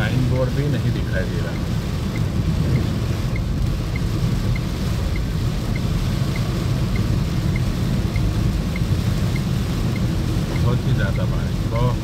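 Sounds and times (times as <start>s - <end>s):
heavy rain on car roof: 0.0s - 12.0s
windscreen wipers sweeping: 0.0s - 12.0s
faint ticking: 1.4s - 12.0s.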